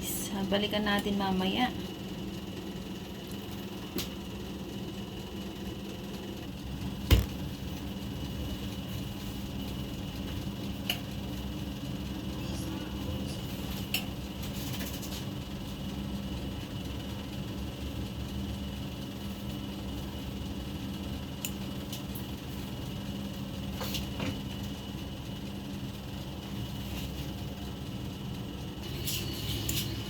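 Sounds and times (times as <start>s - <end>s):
oven fan hum: 0.0s - 30.0s.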